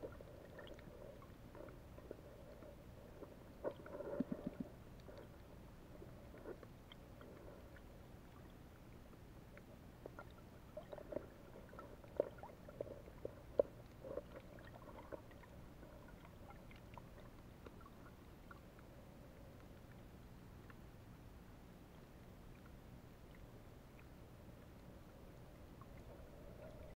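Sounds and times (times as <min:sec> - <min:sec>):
low underwater rumble: 0:00.0 - 0:26.9.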